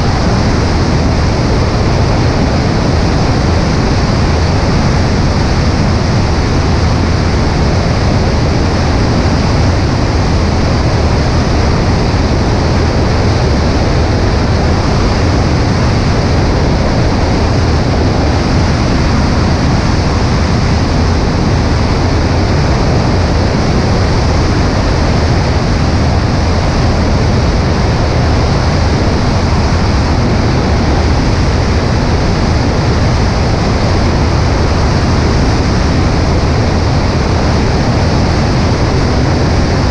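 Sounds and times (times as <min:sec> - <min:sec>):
light aircraft engine running: 0:00.0 - 0:39.9
wind rushing over microphone: 0:00.0 - 0:39.9.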